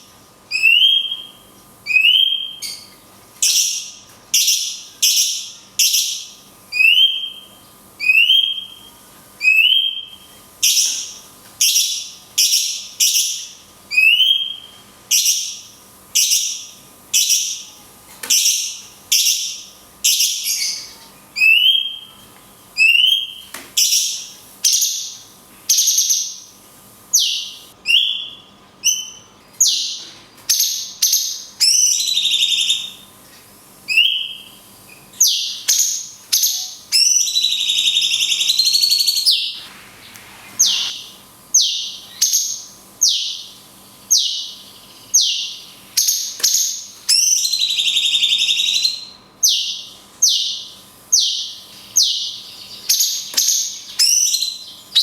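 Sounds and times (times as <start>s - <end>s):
bird singing shrill high calls: 0.5s - 22.2s, 22.8s - 26.5s, 27.1s - 33.1s, 33.9s - 39.6s, 40.6s - 55.0s.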